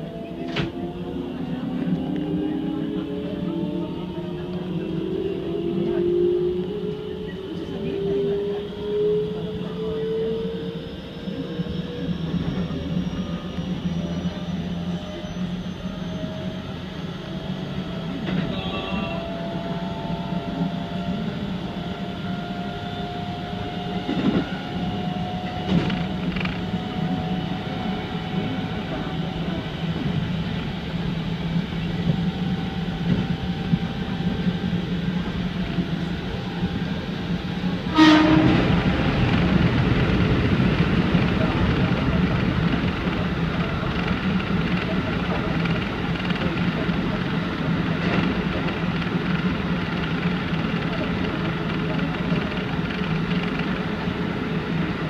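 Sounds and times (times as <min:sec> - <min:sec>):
rising electric motor whine: 0:00.0 - 0:46.0
train rumble: 0:00.0 - 0:55.0.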